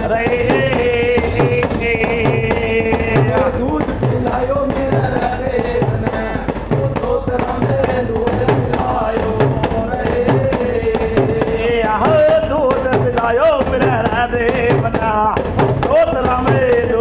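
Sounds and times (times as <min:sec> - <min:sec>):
men singing devotional song: 0:00.0 - 0:17.0.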